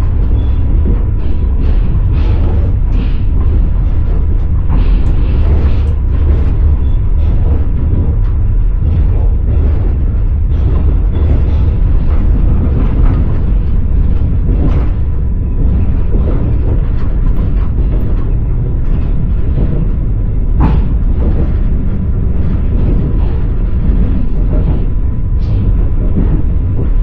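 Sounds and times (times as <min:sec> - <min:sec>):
train wheels rumbling on rails: 0:00.0 - 0:27.0
wheel knocks at rail joints: 0:00.0 - 0:27.0.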